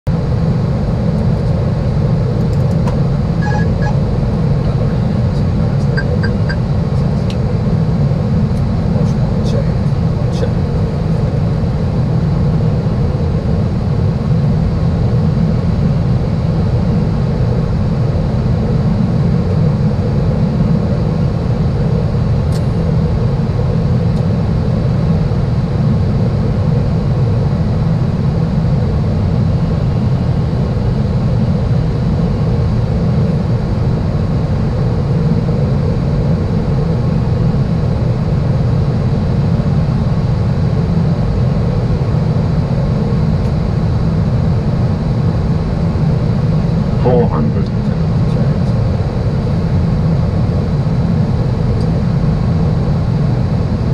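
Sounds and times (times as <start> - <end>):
airflow and engine rumble: 0.0 - 53.9.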